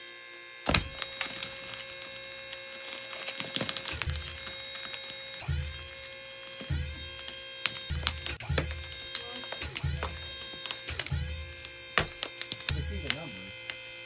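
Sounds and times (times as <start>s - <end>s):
rock cracking and crunching: 0.6s - 14.0s
dull thumps: 0.7s - 13.8s
steady hum: 0.7s - 14.0s.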